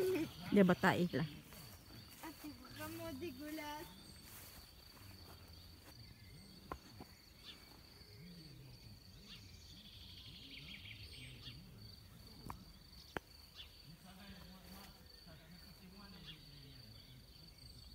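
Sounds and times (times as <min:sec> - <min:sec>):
faint bird chirps: 0:00.0 - 0:14.6, 0:15.2 - 0:17.9.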